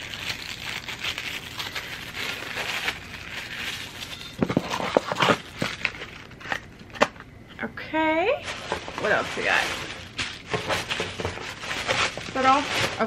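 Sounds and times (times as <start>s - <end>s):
plastic bag crinkling: 0.0s - 7.0s, 8.2s - 13.0s.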